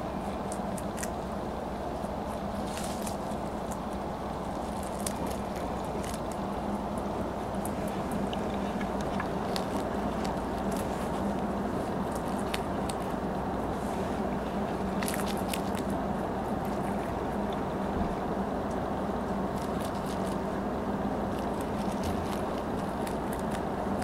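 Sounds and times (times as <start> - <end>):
rabbit chewing: 0.0 - 24.0
steady background hum: 0.0 - 24.0.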